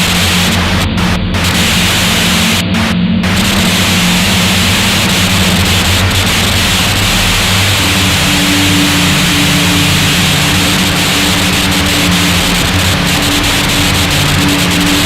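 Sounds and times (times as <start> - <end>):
harsh noise hiss and static: 0.0 - 15.0
low droning hum: 0.0 - 15.0.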